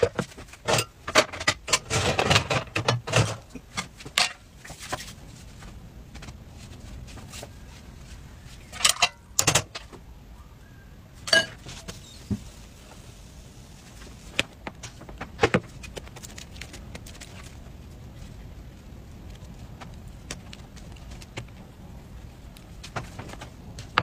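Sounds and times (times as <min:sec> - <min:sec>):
low steady background noise: 0:00.0 - 0:24.0.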